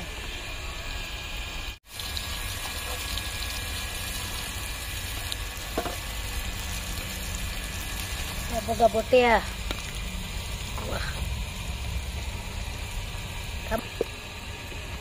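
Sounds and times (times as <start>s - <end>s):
fish frying in hot oil: 0.4s - 15.0s.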